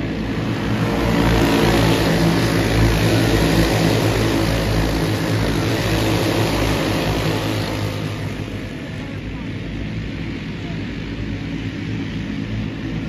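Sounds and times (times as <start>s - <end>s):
racing kart engines at full throttle: 0.0s - 13.0s.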